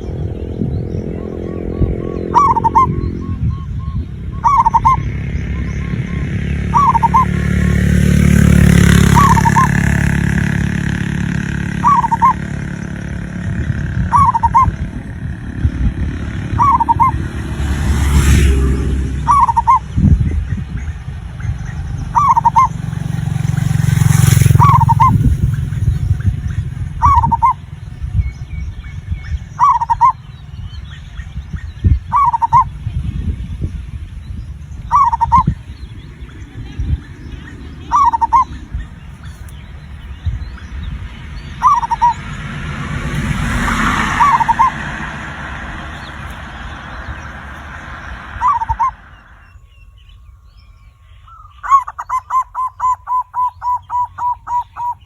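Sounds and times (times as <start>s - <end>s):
dove cooing: 0.0s - 27.7s, 29.5s - 30.3s, 32.1s - 32.8s, 34.8s - 49.2s, 51.6s - 55.0s
loud low rumble: 0.0s - 51.3s.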